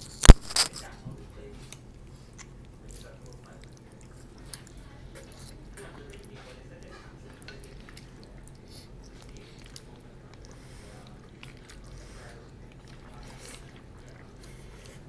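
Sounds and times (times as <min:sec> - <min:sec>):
low steady hum: 0:00.0 - 0:15.0
noodle slurping and chewing: 0:00.0 - 0:15.0.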